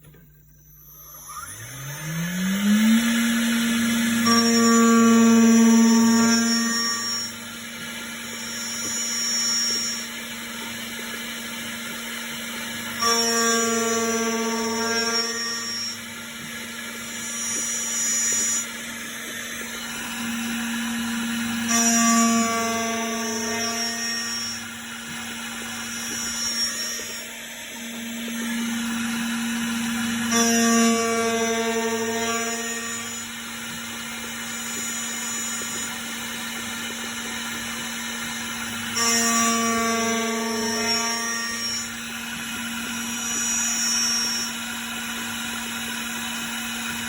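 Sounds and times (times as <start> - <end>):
milling machine motor whine: 0.0 - 47.0.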